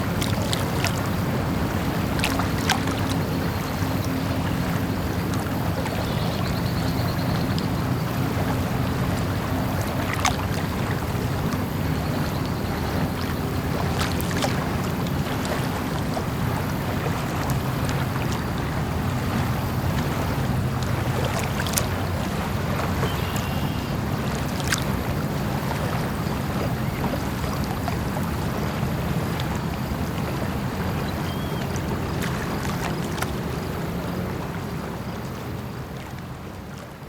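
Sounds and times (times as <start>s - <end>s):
water wash: 0.0s - 37.0s.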